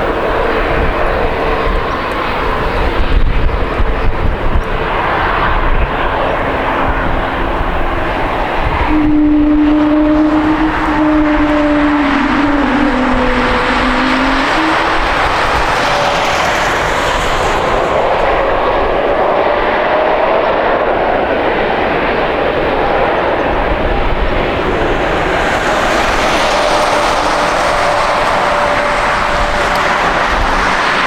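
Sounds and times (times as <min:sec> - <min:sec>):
jet airliner engines passing: 0:00.0 - 0:31.0.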